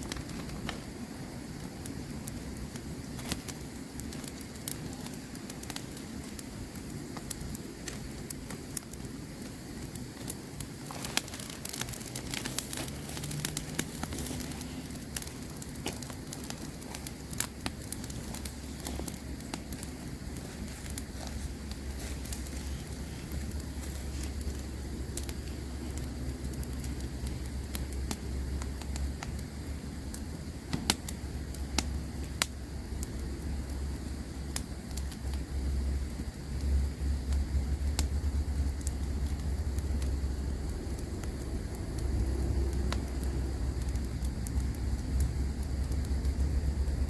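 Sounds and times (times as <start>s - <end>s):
campfire crackles and pops: 0.0s - 47.0s
low fire rumble: 0.0s - 47.0s.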